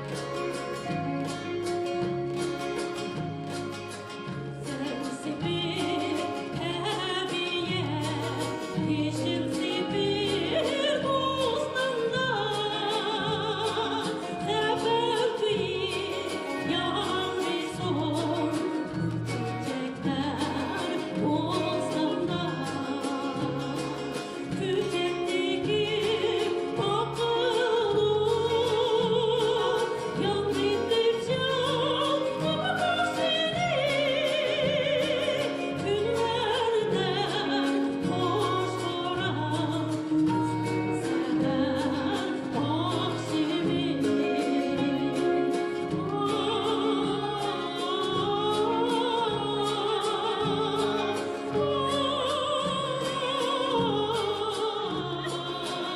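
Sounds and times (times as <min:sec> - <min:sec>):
person singing with vibrato: 0:04.5 - 0:55.9.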